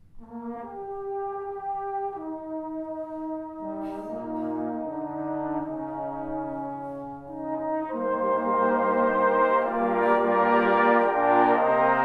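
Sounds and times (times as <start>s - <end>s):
brass band playing chords: 0.2s - 12.0s.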